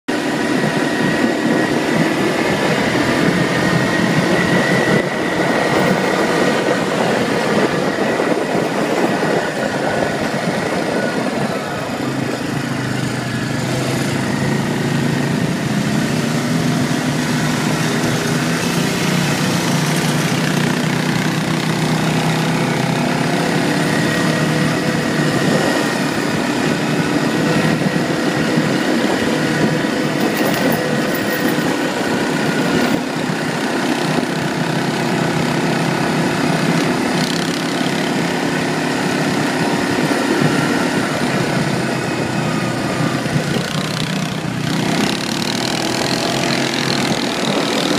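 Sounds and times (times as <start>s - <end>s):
atv engines running: 0.1s - 47.9s
rush of noise: 0.1s - 47.9s.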